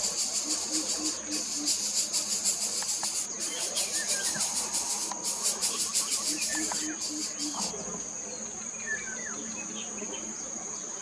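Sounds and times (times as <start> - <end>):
insects trilling: 0.0 - 11.0
faint bird chirps: 0.1 - 11.0.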